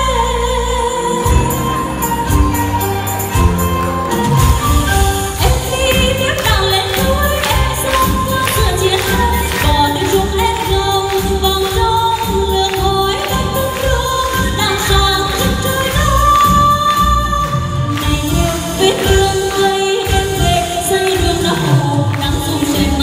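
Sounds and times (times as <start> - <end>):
woman singing: 0.0 - 23.0.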